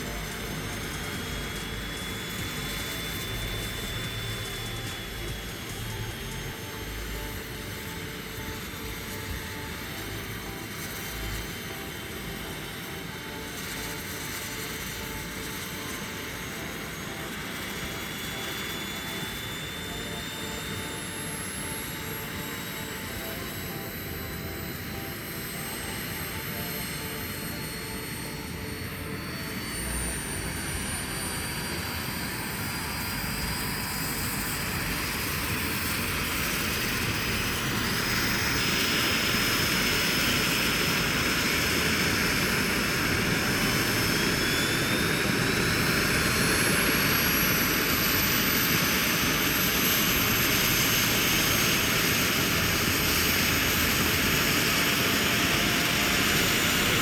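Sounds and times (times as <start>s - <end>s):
model helicopter engine and rotors: 0.0s - 57.0s.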